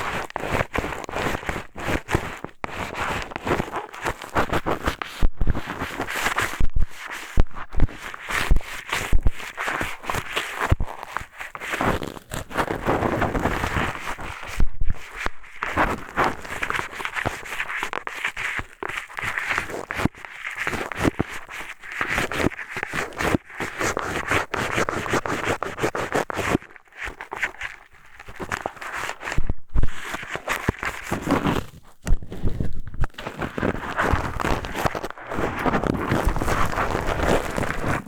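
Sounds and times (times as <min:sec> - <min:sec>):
scratching inside microphone ear: 0:00.0 - 0:38.0.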